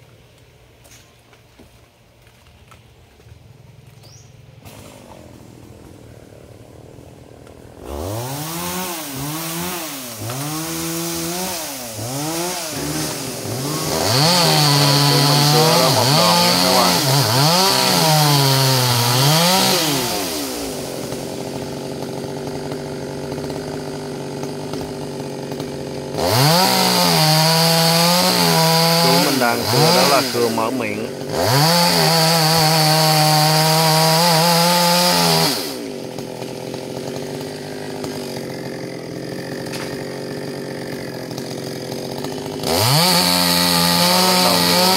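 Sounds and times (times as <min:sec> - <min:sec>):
chainsaw revving: 0:04.6 - 0:44.9.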